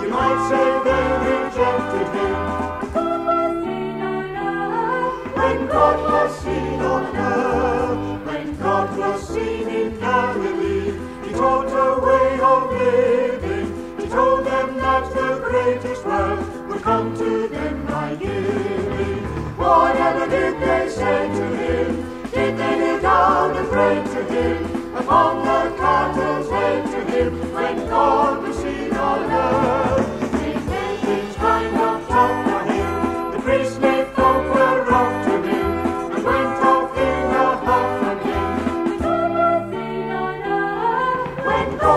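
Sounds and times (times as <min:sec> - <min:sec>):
instrumental backing: 0:00.0 - 0:41.9
vocal group singing in harmony: 0:00.0 - 0:41.9.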